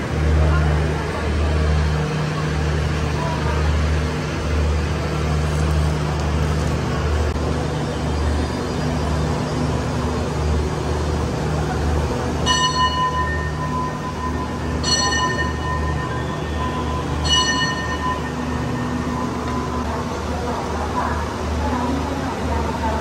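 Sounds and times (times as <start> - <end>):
large engine idling: 0.0 - 23.0.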